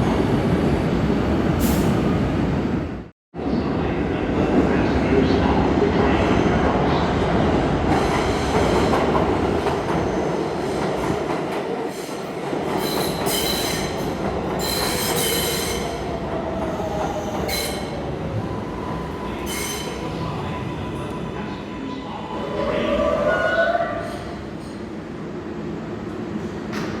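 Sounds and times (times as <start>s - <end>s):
subway train rumbling on rails: 0.0s - 27.0s.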